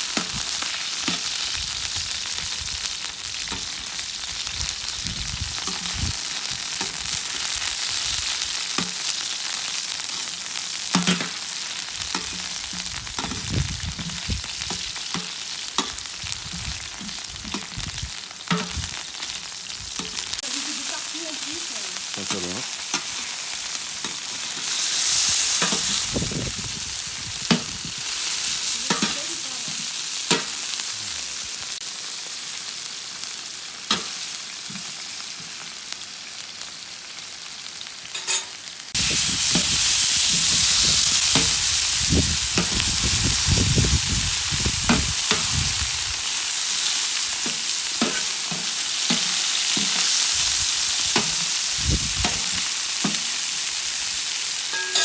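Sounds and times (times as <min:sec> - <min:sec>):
oil sizzling in a pan: 0:00.0 - 0:55.0.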